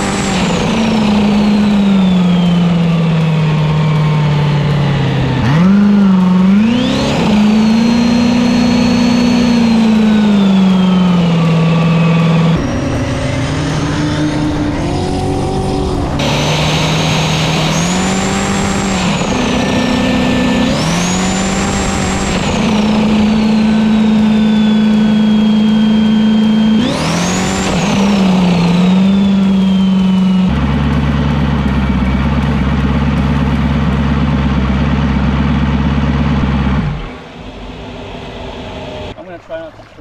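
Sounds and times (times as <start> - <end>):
jet ski engine running hard: 0.0 - 33.6
high turbo whine: 0.0 - 39.3.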